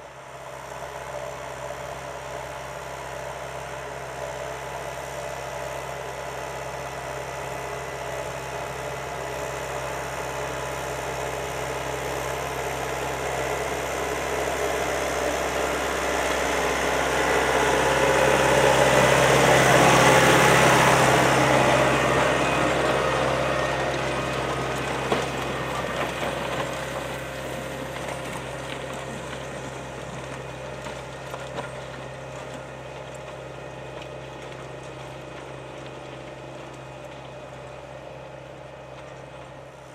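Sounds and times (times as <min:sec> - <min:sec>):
tractor diesel engine passing: 0:00.0 - 0:39.9.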